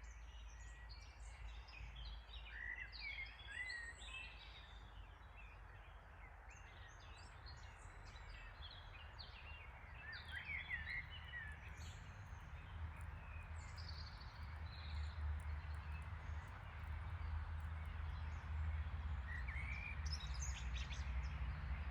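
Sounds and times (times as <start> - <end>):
songbirds chirping: 0.0 - 21.9.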